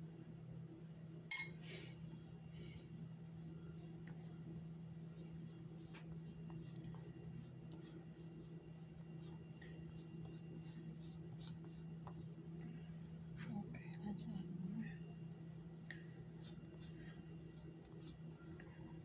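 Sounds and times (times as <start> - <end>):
steady low hum: 0.0 - 19.0
spatula scraping filling on dough: 2.0 - 19.0.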